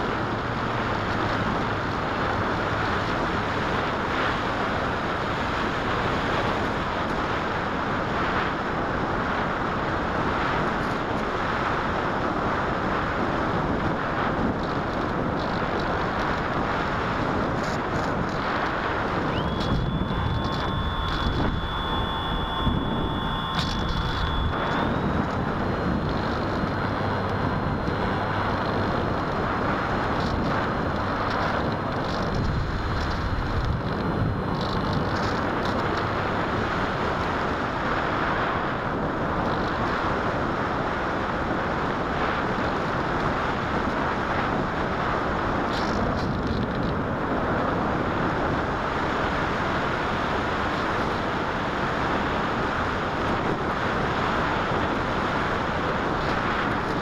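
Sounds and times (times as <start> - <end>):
faint high whine: 0.0 - 46.0
wind rushing over camera: 0.0 - 57.0.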